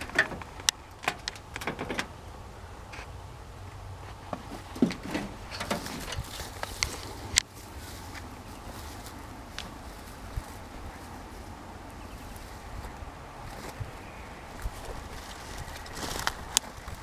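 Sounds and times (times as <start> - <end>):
dry grass crackling and rustling: 2.9 - 17.0.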